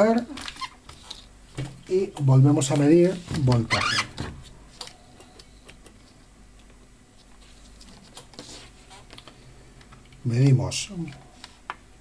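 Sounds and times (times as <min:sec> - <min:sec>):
low steady background noise: 0:00.0 - 0:12.0.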